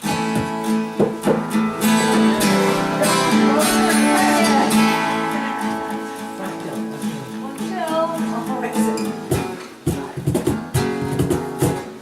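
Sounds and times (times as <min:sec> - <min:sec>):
guitar strumming chords: 0:00.0 - 0:12.0.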